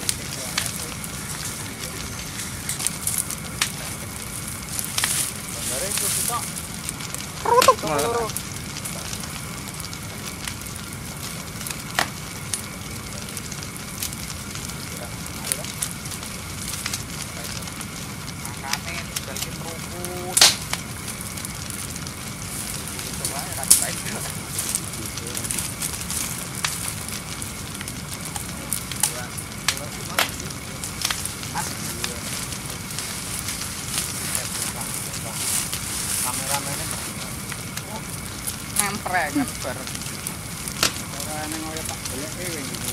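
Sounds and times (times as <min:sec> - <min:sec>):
fire crackling and popping: 0:00.0 - 0:42.9
fire hiss: 0:00.0 - 0:42.9.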